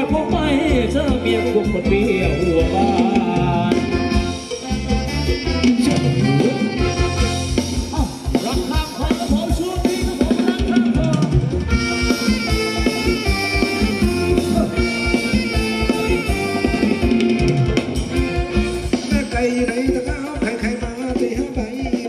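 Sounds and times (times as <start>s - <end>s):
drum kit beat: 0.0s - 22.0s
live band dance music: 0.0s - 22.0s.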